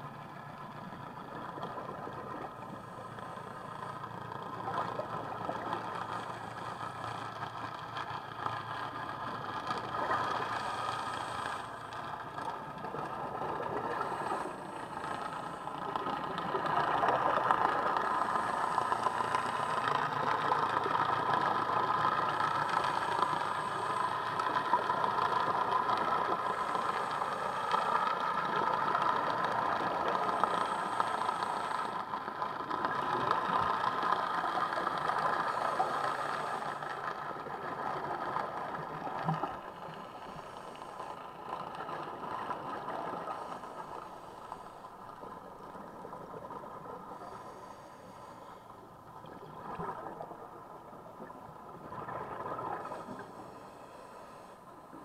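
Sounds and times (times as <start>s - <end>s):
boat engine drone underwater: 0.0s - 55.0s.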